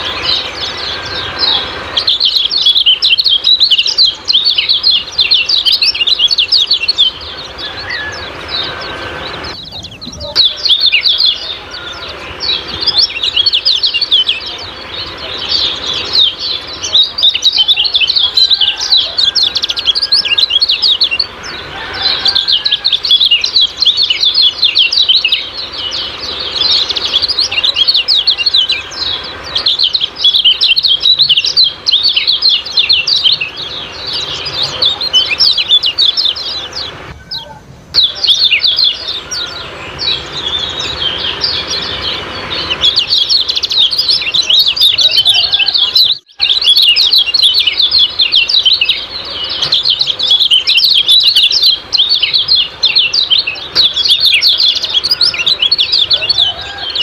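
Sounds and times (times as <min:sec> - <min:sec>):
bird chattering chirps: 0:00.0 - 0:57.0.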